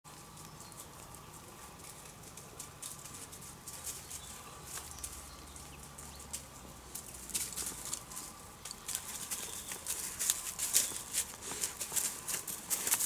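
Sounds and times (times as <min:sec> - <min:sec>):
leaves crackling under dog paws: 0:00.1 - 0:13.0.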